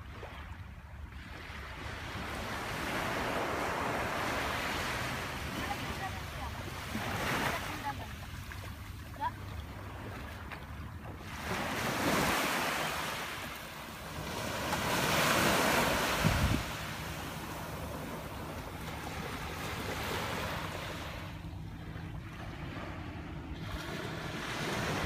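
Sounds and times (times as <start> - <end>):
small waves breaking on shore: 0.0 - 25.0.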